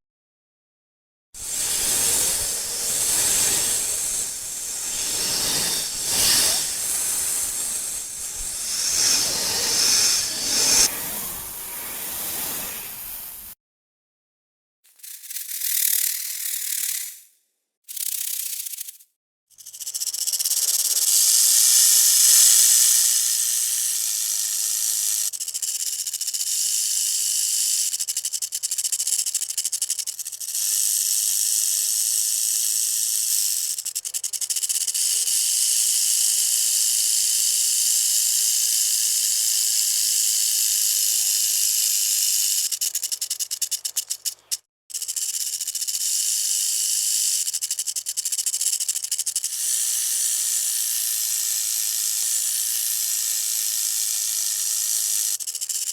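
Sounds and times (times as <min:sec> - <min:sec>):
rattlesnake tail rattling: 0:01.4 - 0:13.6, 0:15.0 - 0:17.3, 0:17.9 - 0:55.9.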